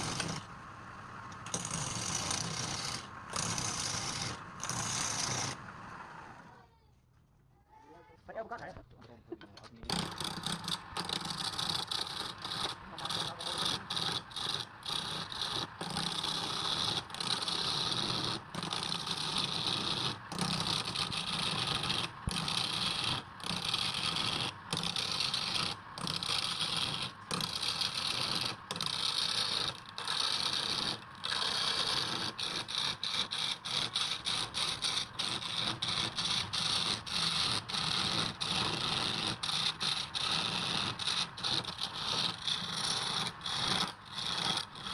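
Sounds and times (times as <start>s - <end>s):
lathe tool hissing scrape: 0.0s - 6.4s, 9.8s - 44.9s.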